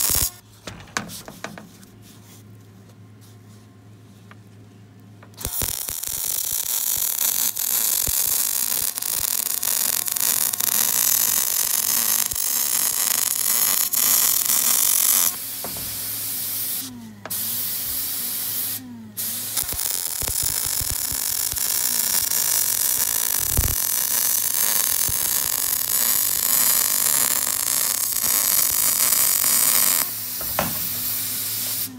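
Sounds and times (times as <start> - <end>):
welding arc crackling and hissing: 0.0 - 0.4, 5.3 - 31.9.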